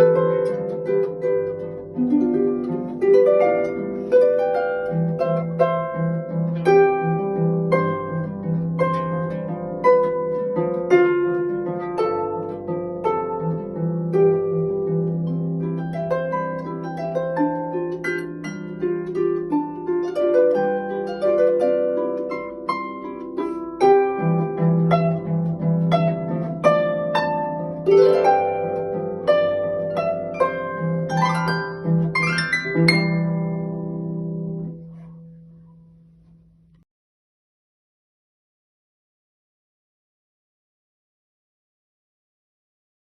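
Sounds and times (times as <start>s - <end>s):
harp playing: 0.0s - 36.2s.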